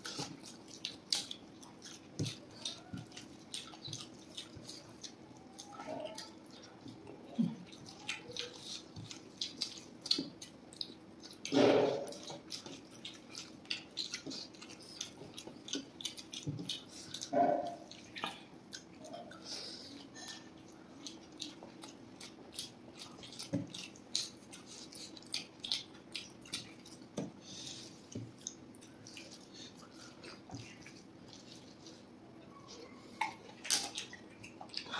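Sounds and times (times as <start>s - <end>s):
wet chewing and lip-smacking: 0.0s - 34.9s.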